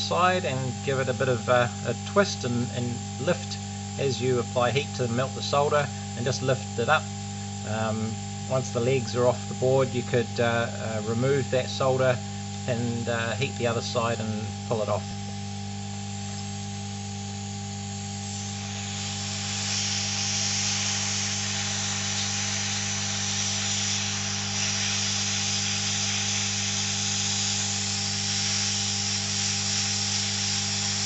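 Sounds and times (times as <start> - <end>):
electrical hum: 0.0 - 31.0
hot air blower hissing: 0.0 - 31.0.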